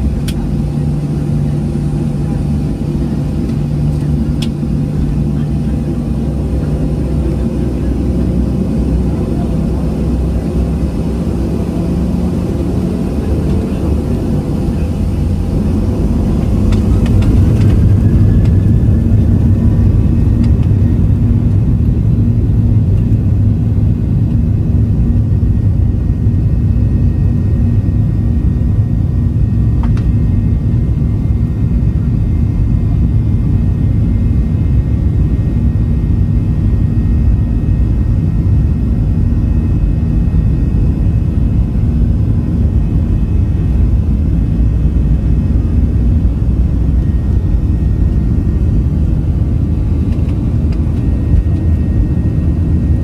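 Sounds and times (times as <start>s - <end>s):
airliner cabin rumble: 0.0s - 53.0s
jet engine whine rising: 0.0s - 53.0s.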